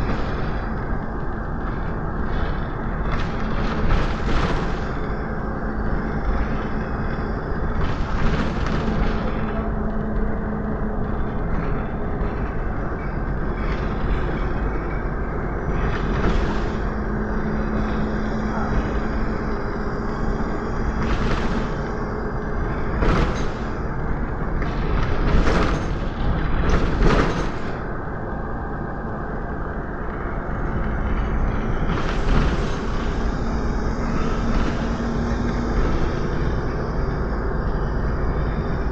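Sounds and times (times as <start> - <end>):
bus engine and road noise: 0.0 - 38.9
low drone: 0.0 - 38.9.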